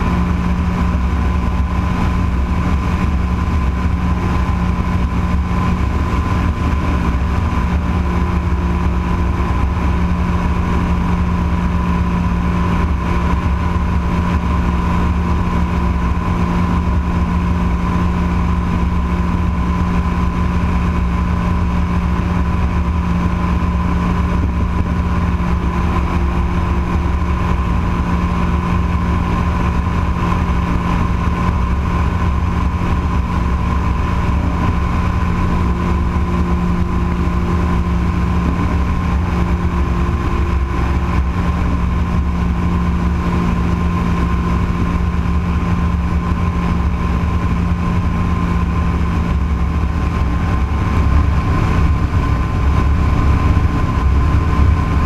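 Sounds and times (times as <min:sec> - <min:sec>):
light aircraft engine drone: 0:00.0 - 0:55.0
wind rushing over microphone: 0:00.0 - 0:55.0.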